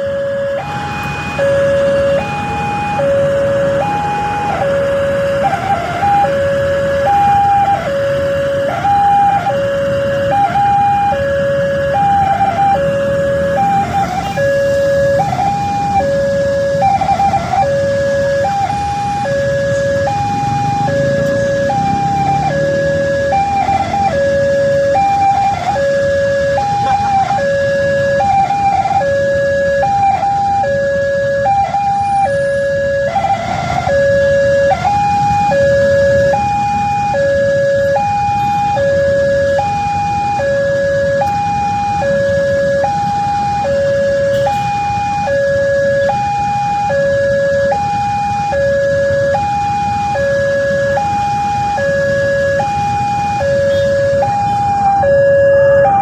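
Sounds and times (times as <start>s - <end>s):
two-tone level crossing siren: 0.0s - 56.0s.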